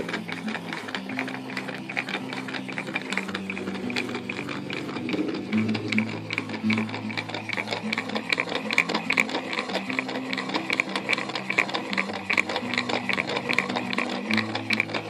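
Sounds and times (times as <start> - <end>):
gear teeth ticking: 0.0 - 15.0
stepper motor buzzing hum: 0.0 - 15.0.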